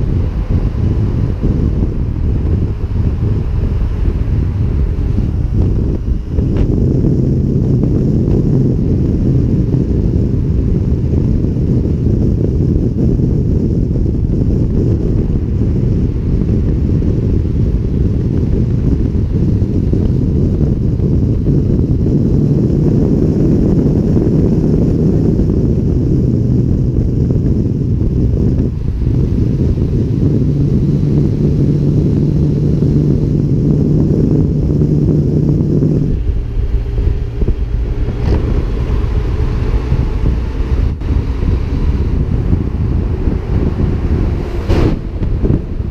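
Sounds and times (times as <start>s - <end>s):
engine and road drone: 0.0s - 45.9s
wind buffeting microphone: 0.0s - 45.9s.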